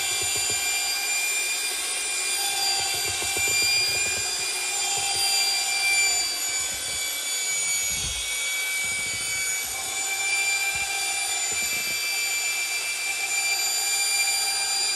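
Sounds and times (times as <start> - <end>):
drill motor whine: 0.0 - 14.9.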